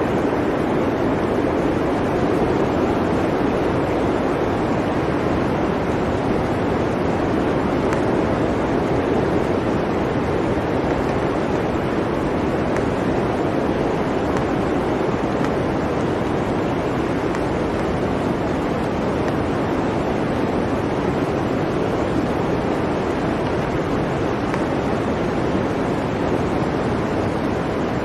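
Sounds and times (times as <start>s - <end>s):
blizzard wind rushing: 0.0s - 28.0s.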